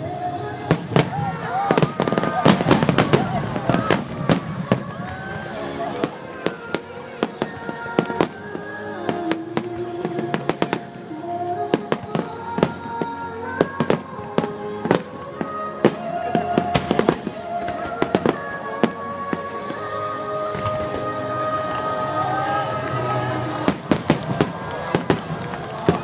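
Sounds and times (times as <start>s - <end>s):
fireworks banging and crackling: 0.0s - 26.0s
music over loudspeakers: 0.0s - 26.0s.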